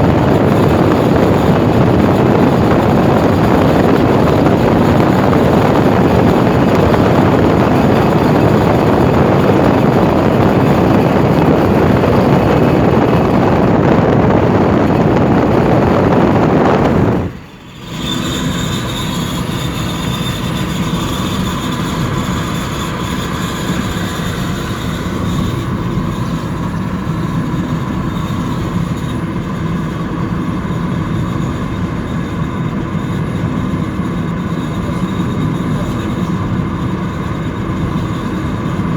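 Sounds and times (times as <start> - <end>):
car driving: 0.0 - 38.9
high-pitched wheel screech: 0.0 - 38.9
road and wind noise: 0.0 - 38.9.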